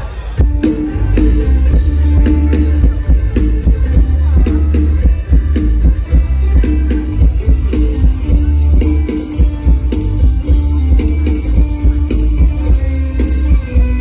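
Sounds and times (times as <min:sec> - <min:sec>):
live band music through speakers: 0:00.0 - 0:14.0.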